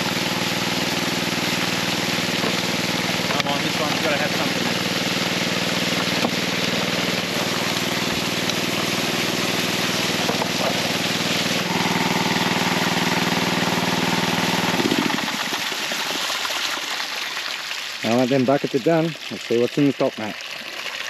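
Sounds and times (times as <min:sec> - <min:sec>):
water pump engine running: 0:00.0 - 0:21.0.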